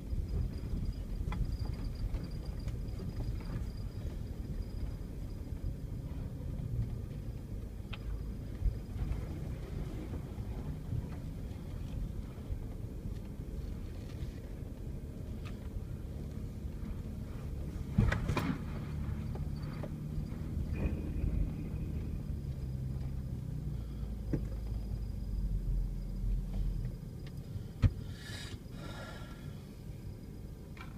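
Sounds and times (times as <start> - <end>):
vehicle engine and suspension rumbling: 0.0 - 30.9.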